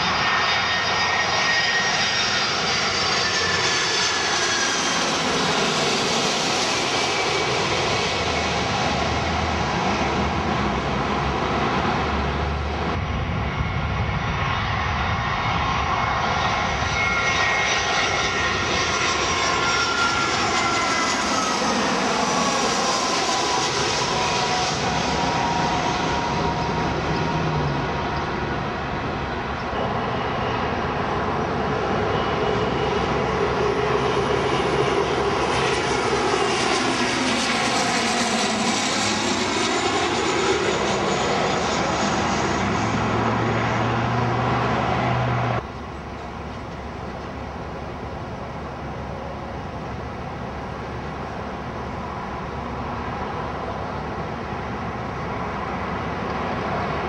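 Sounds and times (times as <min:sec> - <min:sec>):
jet airliners passing overhead: 0:00.0 - 0:57.0.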